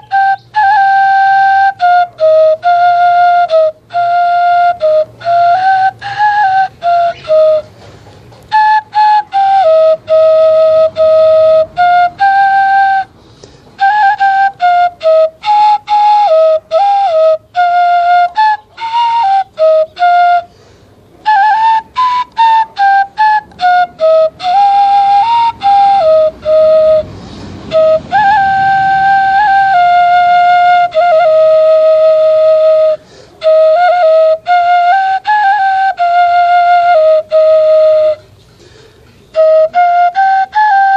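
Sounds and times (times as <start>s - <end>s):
bamboo flute playing slow melody: 0.0s - 40.9s.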